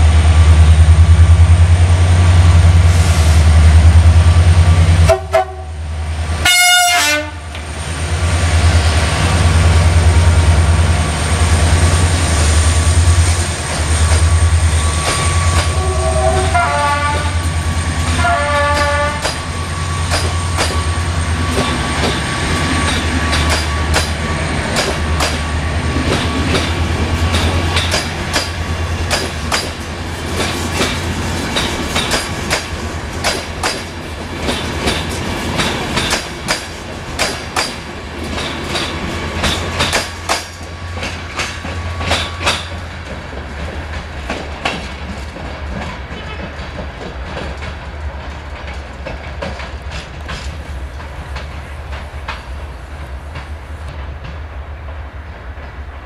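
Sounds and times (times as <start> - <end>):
low train rumble: 0.0 - 56.0
train wheels clacking over rail joints: 8.6 - 56.0.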